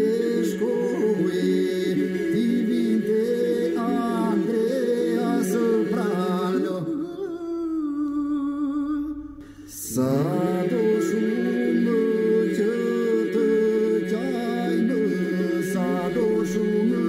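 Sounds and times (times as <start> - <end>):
male voices singing elegy: 0.0 - 17.0.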